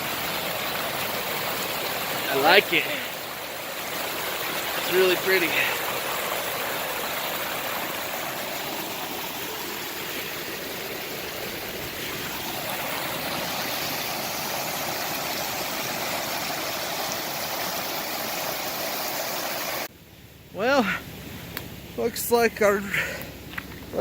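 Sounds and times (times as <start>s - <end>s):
stream water rushing: 0.0s - 19.9s.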